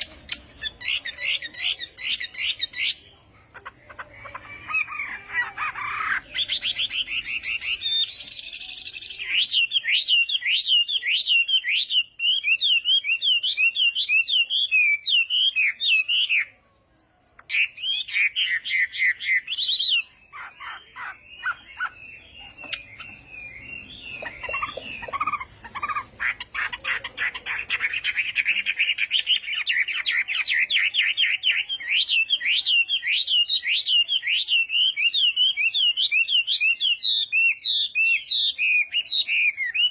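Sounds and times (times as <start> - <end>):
songbird whistling song: 0.0 - 3.2, 4.2 - 39.9.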